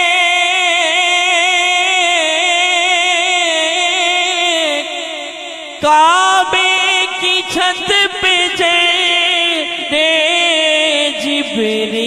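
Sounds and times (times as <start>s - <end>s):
man singing a long note: 0.0s - 12.0s.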